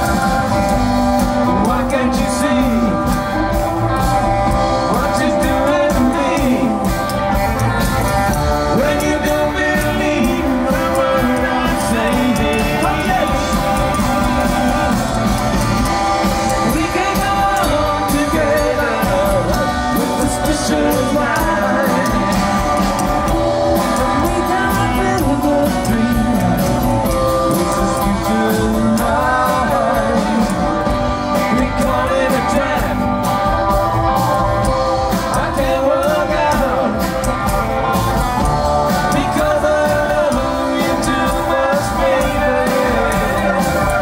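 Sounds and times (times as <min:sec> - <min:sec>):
man singing: 0:00.0 - 0:07.4, 0:08.5 - 0:44.0
drum kit: 0:00.0 - 0:44.0
electric guitar: 0:00.0 - 0:44.0
upright bass: 0:00.0 - 0:44.0.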